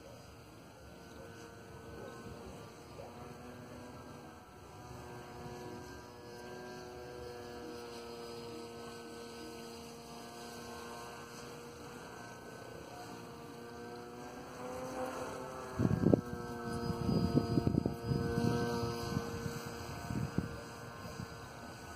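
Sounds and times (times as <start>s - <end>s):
model aircraft propeller buzzing: 0.0s - 21.9s.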